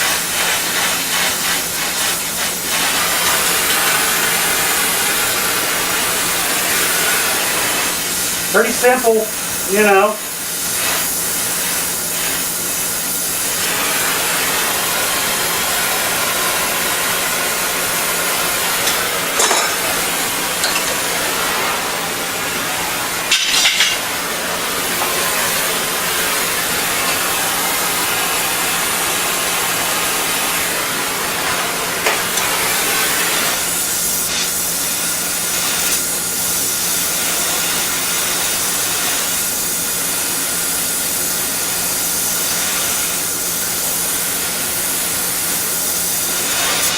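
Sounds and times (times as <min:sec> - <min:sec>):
air conditioner hissing and humming: 0:00.0 - 0:46.9.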